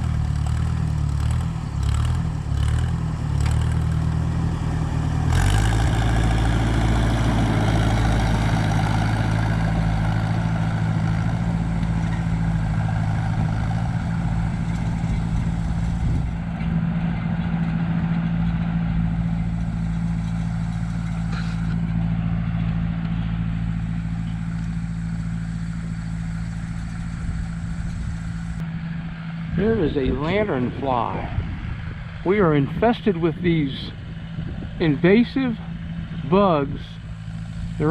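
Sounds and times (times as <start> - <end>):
heavy machine engine drone: 0.0 - 37.9.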